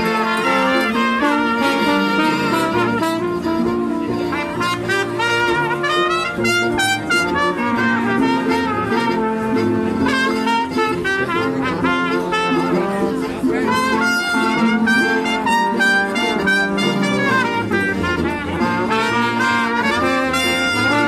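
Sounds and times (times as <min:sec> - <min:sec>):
live brass band music: 0:00.0 - 0:21.0.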